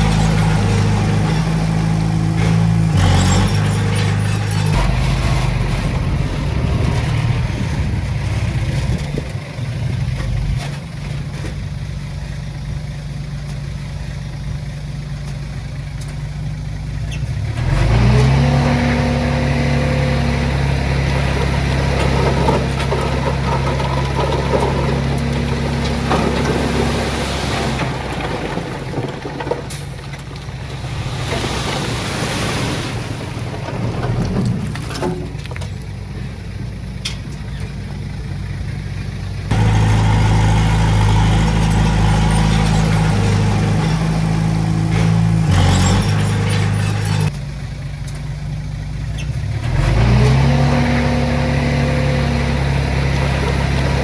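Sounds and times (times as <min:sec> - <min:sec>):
diesel engine revving under load: 0:00.0 - 0:13.6, 0:14.2 - 0:54.0.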